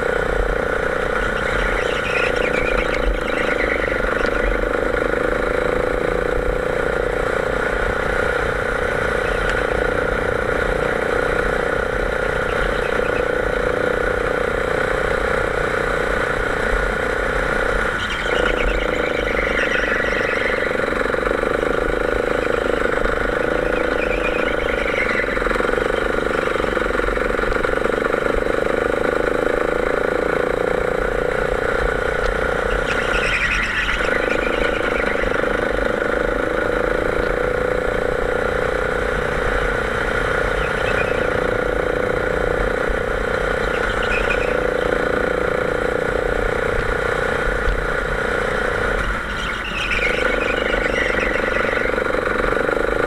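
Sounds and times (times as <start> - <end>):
go-kart engine buzzing: 0.0 - 53.0.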